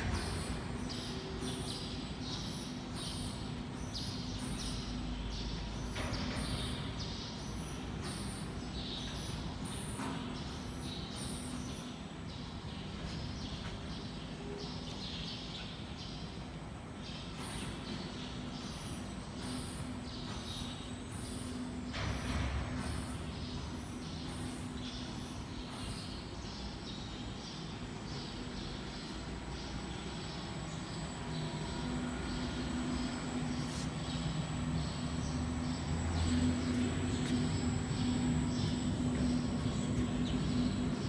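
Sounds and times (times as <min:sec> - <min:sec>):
low workshop hum: 0:00.0 - 0:41.0
small birds chirping: 0:00.0 - 0:41.0.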